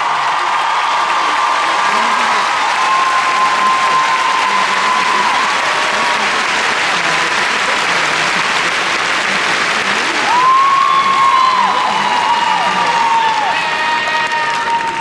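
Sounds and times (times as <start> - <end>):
arena crowd applauding: 0.0 - 15.0
high calls from crowd: 0.0 - 15.0.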